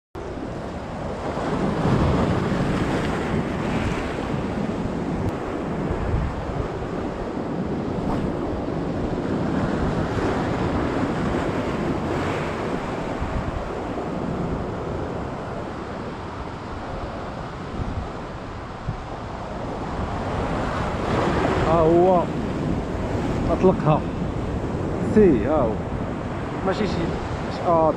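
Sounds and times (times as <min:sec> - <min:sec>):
sea surf breaking on rocks: 0:00.2 - 0:27.9
wind rumbling on microphone: 0:00.2 - 0:27.9.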